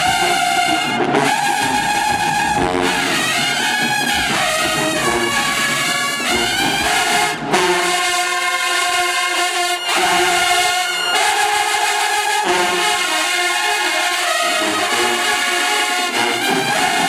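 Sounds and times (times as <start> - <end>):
marching band brass playing: 0.0 - 17.0.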